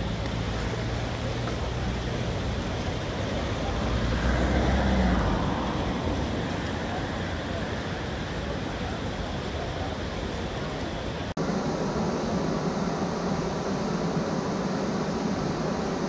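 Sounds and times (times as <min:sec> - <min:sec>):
river water pouring over weir: 0:00.0 - 0:16.0.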